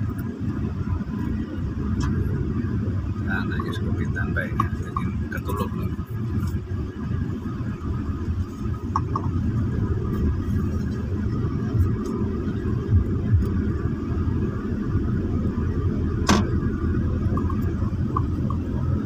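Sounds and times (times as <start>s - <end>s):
car engine and tyres rumbling: 0.0s - 19.0s
low bumps: 0.0s - 19.0s.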